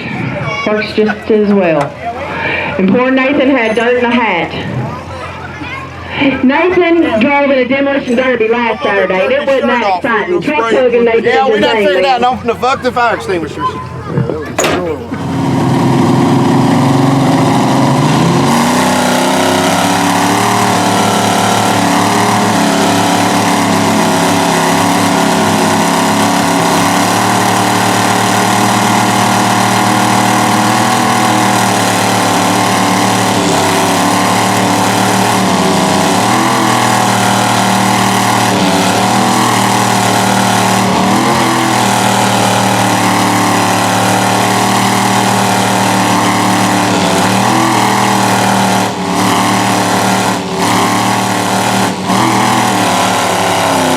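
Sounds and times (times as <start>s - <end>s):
truck engines at high revs: 0.0s - 53.9s.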